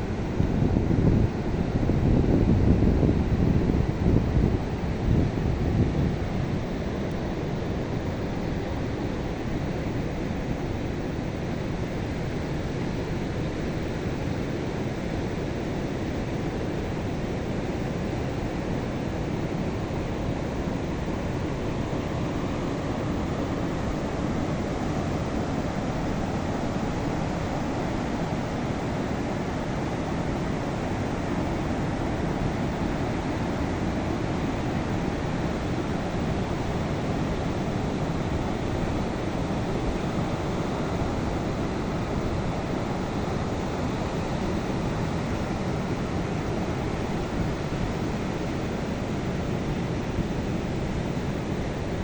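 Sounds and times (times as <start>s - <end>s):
waves washing on a beach: 3.2s - 52.0s.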